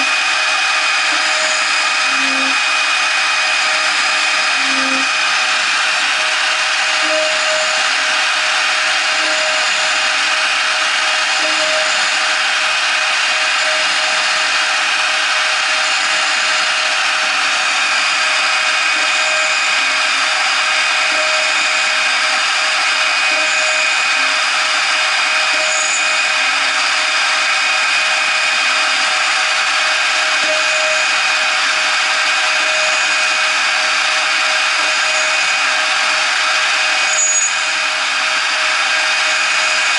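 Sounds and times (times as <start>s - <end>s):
metal cutting noise: 0.0s - 39.9s
router spindle high whine: 0.0s - 39.9s.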